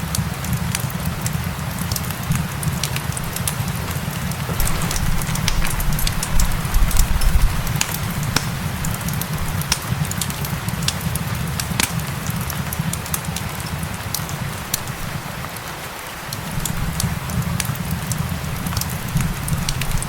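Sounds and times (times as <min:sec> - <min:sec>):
wood fire crackling and popping: 0:00.0 - 0:15.5, 0:16.2 - 0:20.0
rain hiss: 0:00.0 - 0:20.0.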